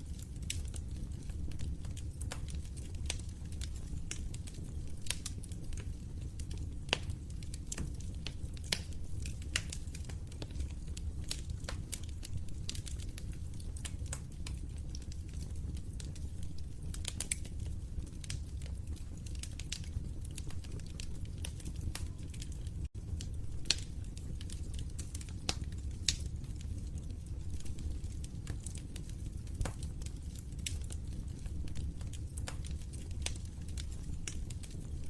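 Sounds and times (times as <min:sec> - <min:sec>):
fire crackling: 0:00.0 - 0:35.0.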